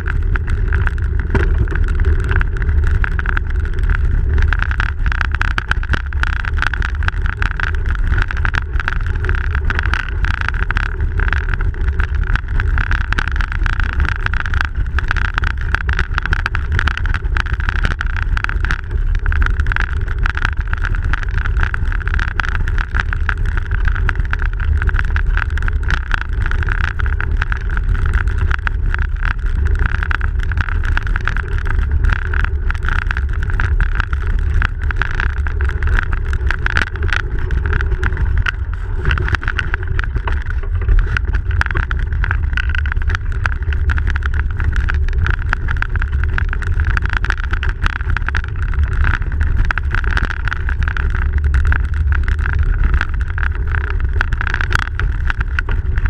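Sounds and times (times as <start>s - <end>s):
small clicks and rattles: 0.0s - 56.0s
tyre and wind rumble: 0.0s - 56.0s.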